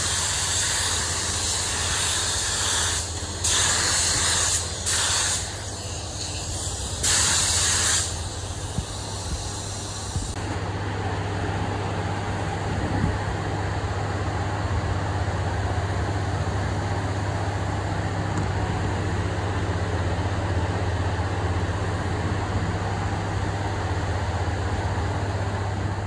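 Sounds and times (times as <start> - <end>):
extraction fans humming: 0.0 - 26.0.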